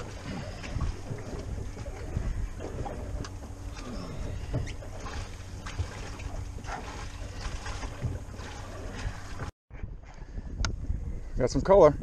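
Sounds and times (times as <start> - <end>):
water around a boat: 0.0 - 12.0
wind: 0.0 - 12.0.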